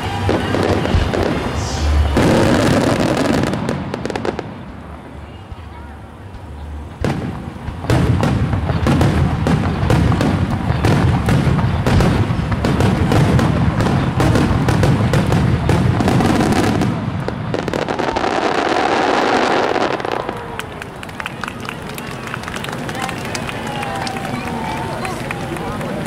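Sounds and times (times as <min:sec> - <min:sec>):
fireworks booming and cracking: 0:00.0 - 0:26.0
fireworks crackle: 0:00.0 - 0:26.0.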